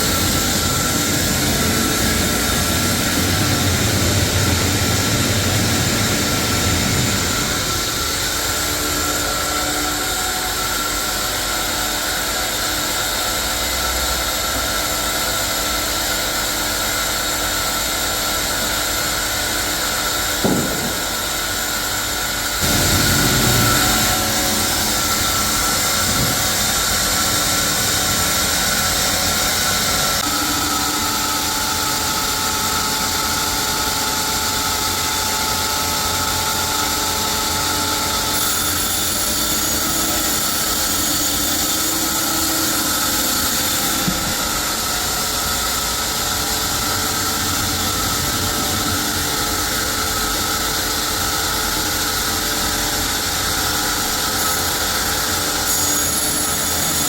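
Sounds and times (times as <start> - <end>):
high mechanical whine: 0.0 - 57.0
sawmill machinery drone: 0.0 - 57.0.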